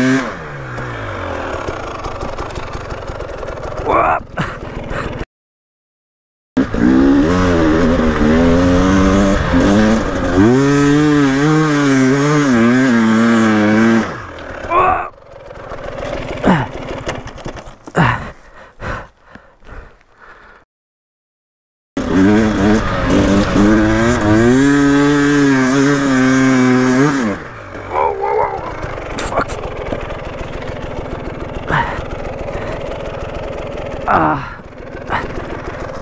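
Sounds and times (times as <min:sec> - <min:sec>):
motorbike engine revving: 0:00.0 - 0:05.3, 0:06.6 - 0:20.4, 0:22.0 - 0:36.0.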